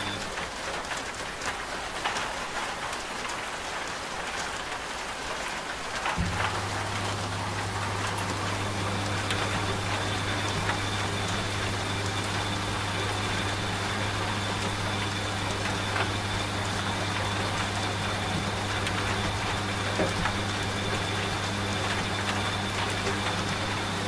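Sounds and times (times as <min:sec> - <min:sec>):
washing machine humming: 0:00.0 - 0:01.0, 0:04.9 - 0:24.0
steady rain: 0:00.0 - 0:24.0.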